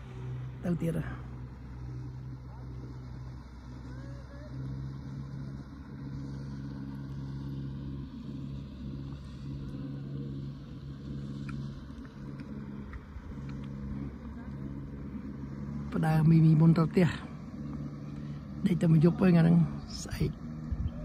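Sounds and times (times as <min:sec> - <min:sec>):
engine droning at low revs: 0:00.0 - 0:21.0.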